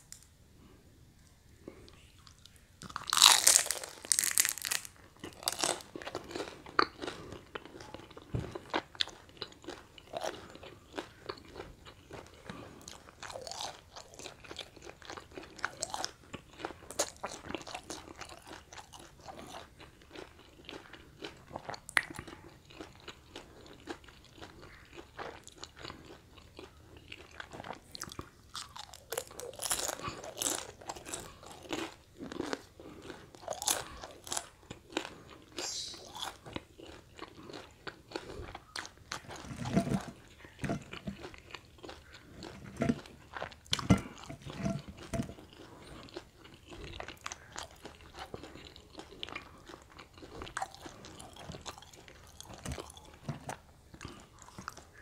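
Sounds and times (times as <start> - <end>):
crunchy chewing of fried roll: 1.6 - 55.0
loud crunch of biting: 2.2 - 55.0.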